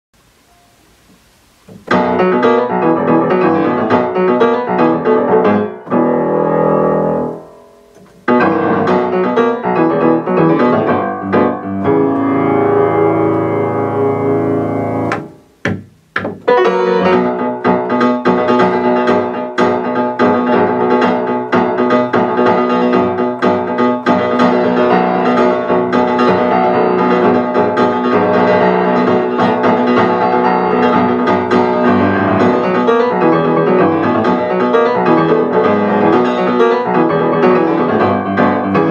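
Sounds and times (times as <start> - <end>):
solo grand piano: 0.2 - 38.9.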